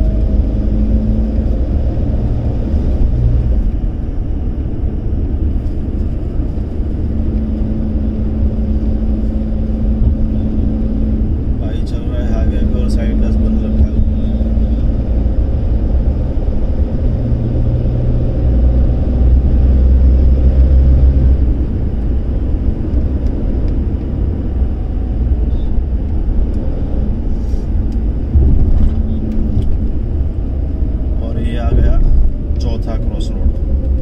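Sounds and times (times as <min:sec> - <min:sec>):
car engine rumble: 0:00.0 - 0:34.0
low drone: 0:00.0 - 0:34.0
tyres on road: 0:00.0 - 0:34.0.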